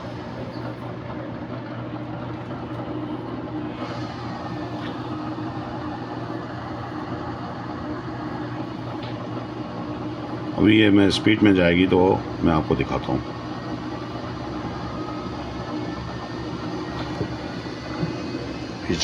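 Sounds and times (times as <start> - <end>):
washing machine motor spinning: 0.0 - 19.0.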